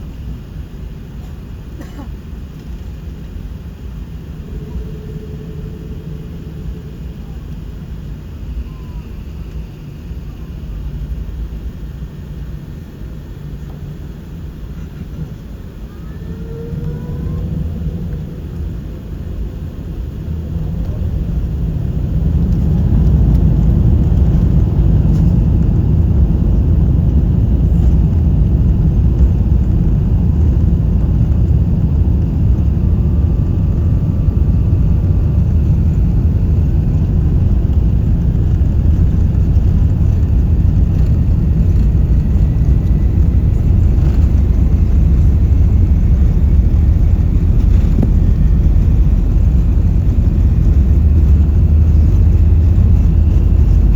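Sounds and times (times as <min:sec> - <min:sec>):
jet engines at takeoff thrust: 0:00.0 - 0:53.9
wheels rumbling on runway: 0:00.0 - 0:53.9.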